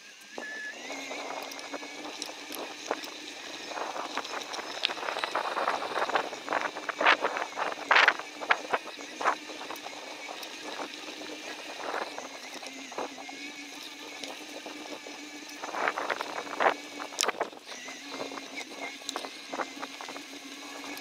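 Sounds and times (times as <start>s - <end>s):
bicycle tyres rolling: 0.0s - 21.0s
bike clicks and rattles: 0.9s - 21.0s.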